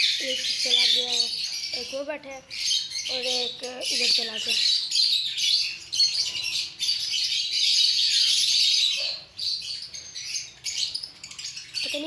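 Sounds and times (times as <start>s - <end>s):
lovebirds chirping: 0.0s - 12.0s.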